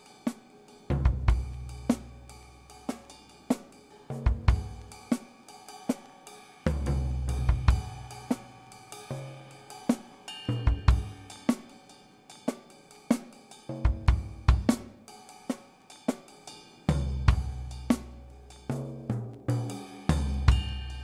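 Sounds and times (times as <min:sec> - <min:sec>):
drum kit with cymbals: 0:00.0 - 0:21.0.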